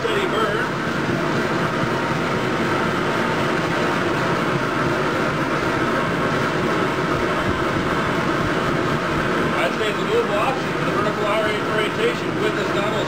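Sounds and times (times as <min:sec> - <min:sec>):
oil burner rushing: 0:00.0 - 0:13.0.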